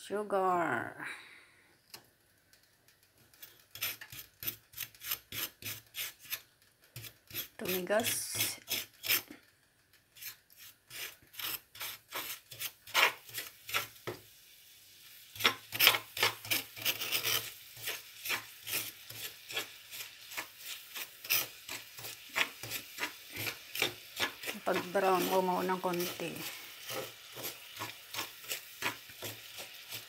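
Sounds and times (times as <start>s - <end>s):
metal spoon scraping sugar in pan: 3.3s - 9.4s, 10.1s - 14.2s, 15.1s - 30.0s.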